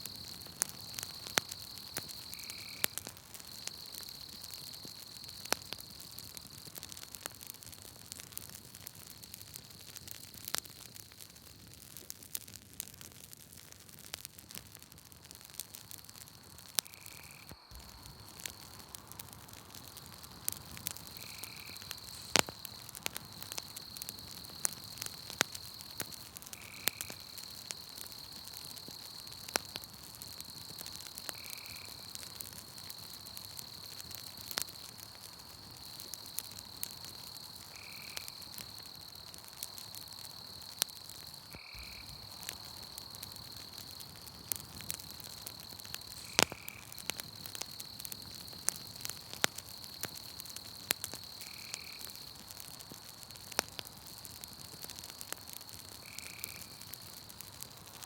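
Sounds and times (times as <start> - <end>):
high insect trill: 0.0 - 7.1, 16.0 - 57.8
campfire crackling: 0.0 - 58.0.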